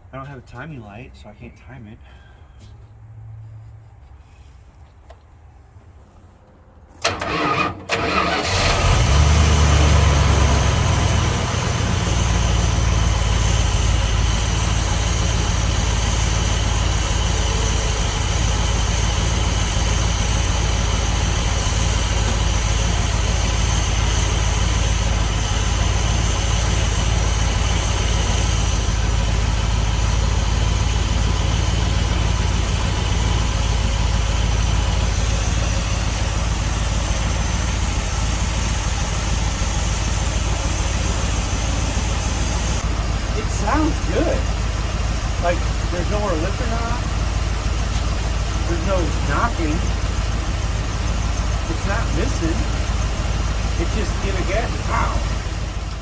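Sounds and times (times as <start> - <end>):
pickup engine cranking and idling: 0.0 - 56.0.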